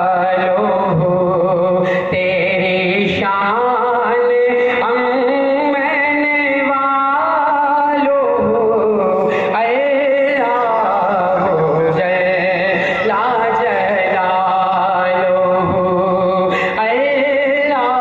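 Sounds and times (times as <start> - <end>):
man chanting through microphone: 0.0 - 18.0.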